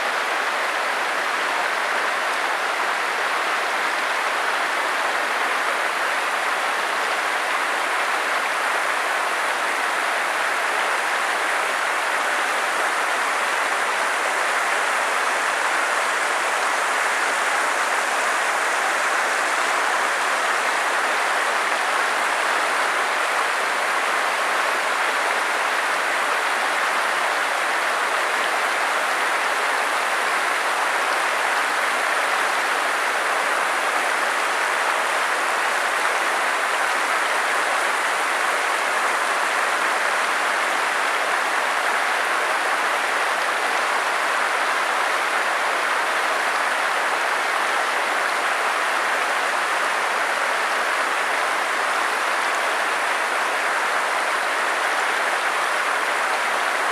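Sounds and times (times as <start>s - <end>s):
water rushing over rocks: 0.0s - 56.9s.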